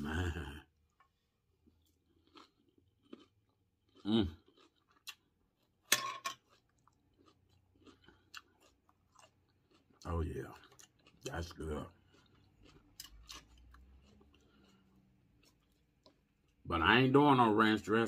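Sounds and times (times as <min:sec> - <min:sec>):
chewing salad: 0:00.1 - 0:17.1.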